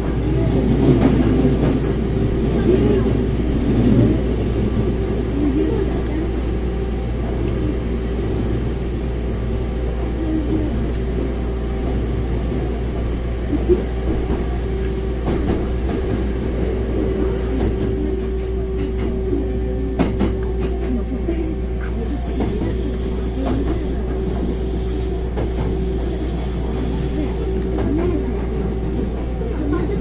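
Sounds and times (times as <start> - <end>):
train steady hum: 0.0 - 30.0
train wheels rumbling on rail: 0.0 - 30.0.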